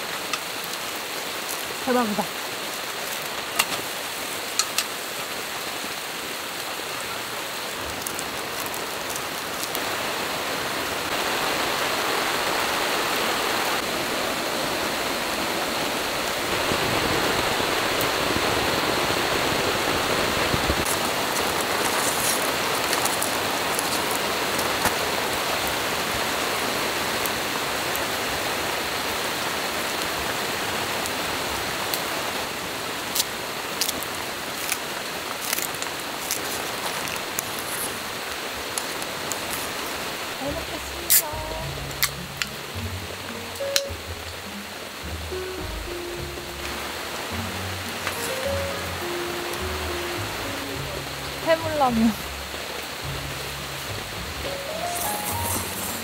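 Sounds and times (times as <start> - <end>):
rain on a tarp: 0.0 - 56.0.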